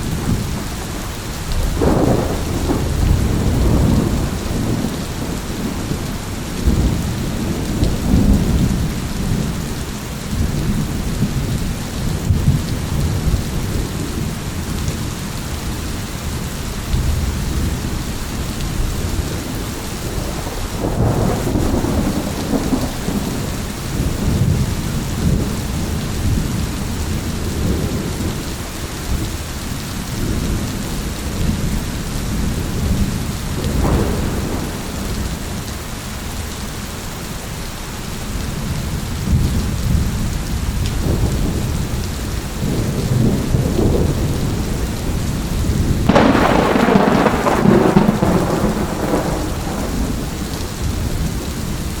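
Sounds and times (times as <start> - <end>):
rolling thunder: 0.0 - 15.2, 16.9 - 28.5, 30.1 - 35.8, 38.6 - 52.0
heavy rain: 0.0 - 52.0.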